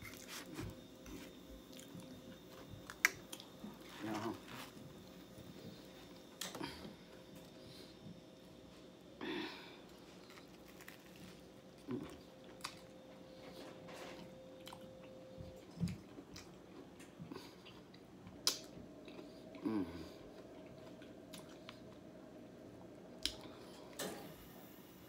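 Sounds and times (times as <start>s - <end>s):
person chewing food: 0.0s - 8.1s, 9.8s - 22.0s.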